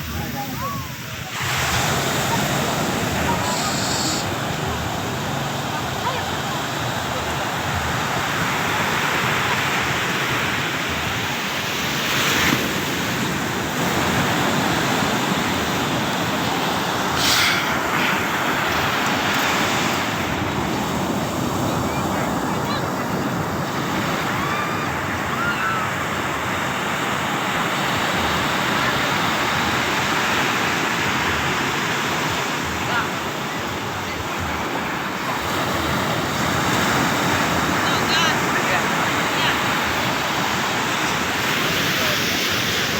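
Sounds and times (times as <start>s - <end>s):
surf breaking on beach: 0.0s - 42.9s.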